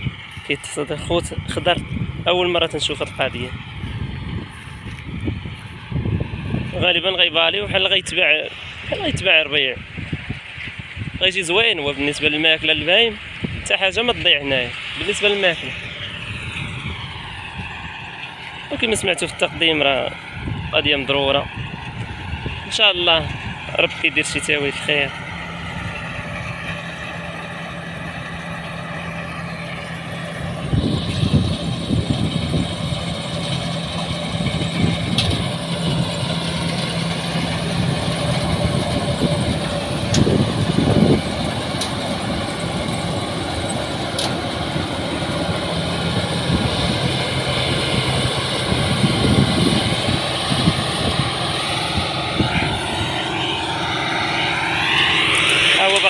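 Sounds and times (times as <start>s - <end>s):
combine harvester diesel engine: 0.0s - 56.0s.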